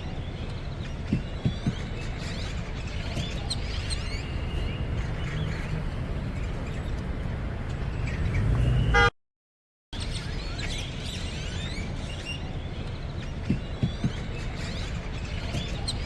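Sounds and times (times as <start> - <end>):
birds chirping and calling: 0.2 - 8.9, 10.0 - 16.0.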